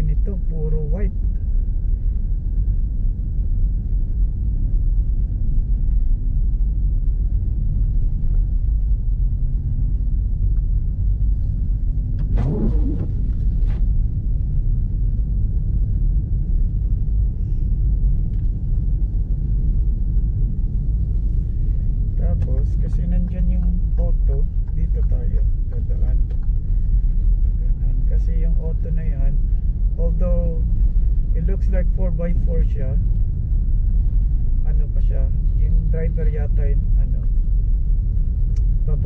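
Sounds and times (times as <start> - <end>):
road and engine noise in car cabin: 0.0 - 39.0.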